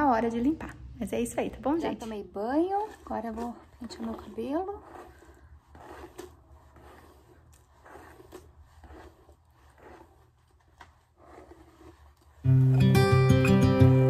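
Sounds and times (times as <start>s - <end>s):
hair being combed: 1.3s - 13.2s.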